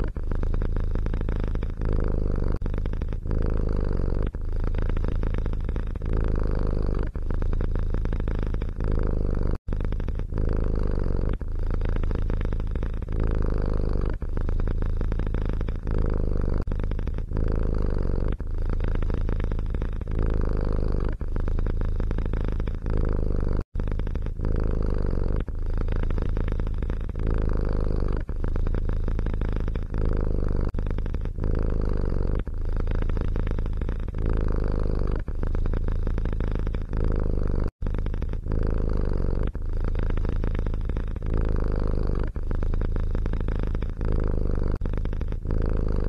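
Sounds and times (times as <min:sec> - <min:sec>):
cat purring: 0:00.0 - 0:46.0.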